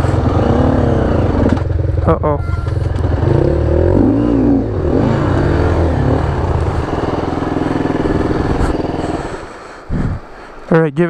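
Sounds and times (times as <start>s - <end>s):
dirt bike engine revving: 0.0s - 9.6s.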